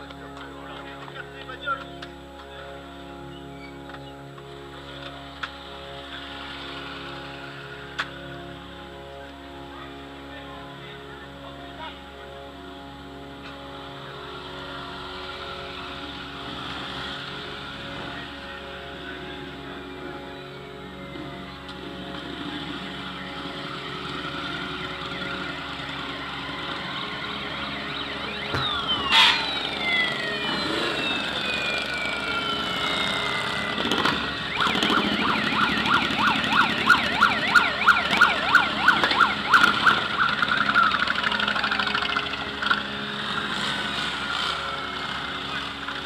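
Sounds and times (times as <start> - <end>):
motorcycle engines passing: 0.0 - 46.0
siren wailing and warbling: 0.7 - 46.0.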